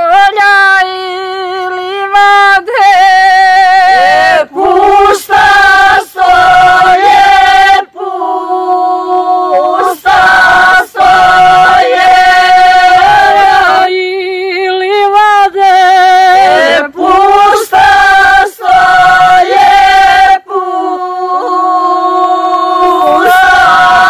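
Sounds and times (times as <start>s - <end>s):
women singing unaccompanied: 0.0s - 24.0s.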